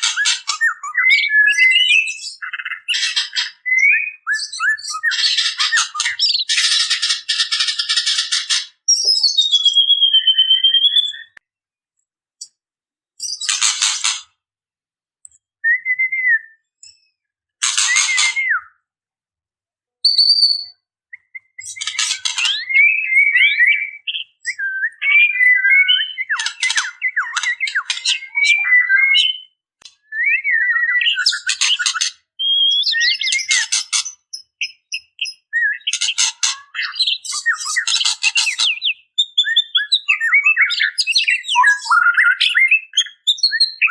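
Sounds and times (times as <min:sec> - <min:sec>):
bird whistles and chirps: 0:00.0 - 0:11.4, 0:13.2 - 0:14.4, 0:15.6 - 0:18.9, 0:20.0 - 0:43.9.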